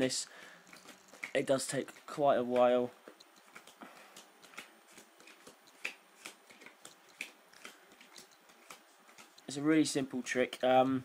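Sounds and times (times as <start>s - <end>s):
playing cards being dealt: 0.7s - 9.7s.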